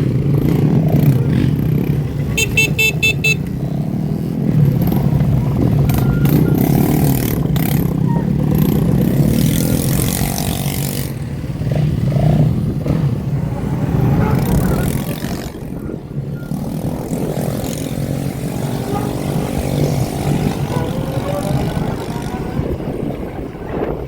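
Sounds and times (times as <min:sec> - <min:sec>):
motorbike engines revving: 0:00.0 - 0:24.0.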